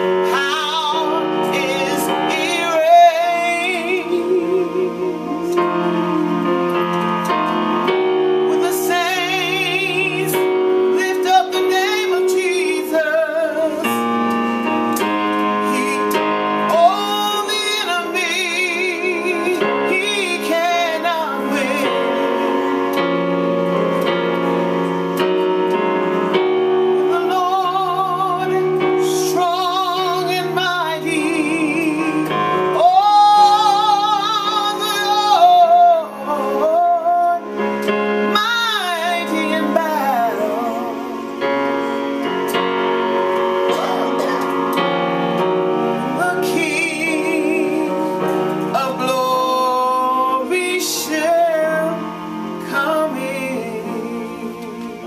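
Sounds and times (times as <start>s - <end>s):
woman singing gospel song: 0.0s - 7.2s, 8.5s - 14.4s, 15.4s - 23.0s, 27.0s - 41.2s, 45.8s - 55.0s
keyboard accompaniment: 0.0s - 55.0s.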